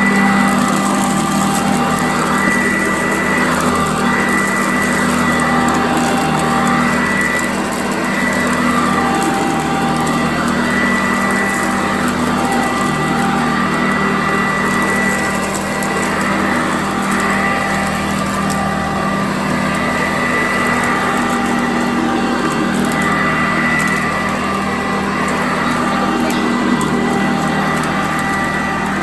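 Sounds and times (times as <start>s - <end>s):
vacuum cleaner running on carpet: 0.0s - 29.0s.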